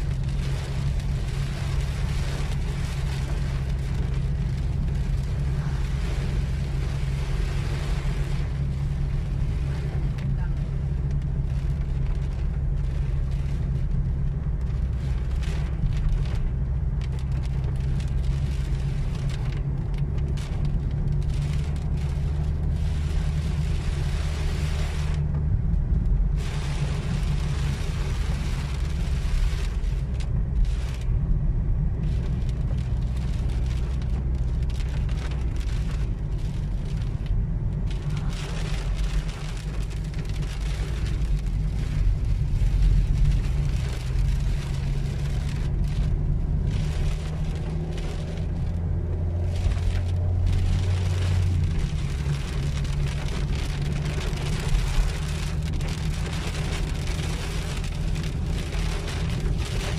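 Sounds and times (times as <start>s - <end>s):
car engine and road drone: 0.0s - 59.9s
rain and wet tyres hissing: 0.0s - 59.9s.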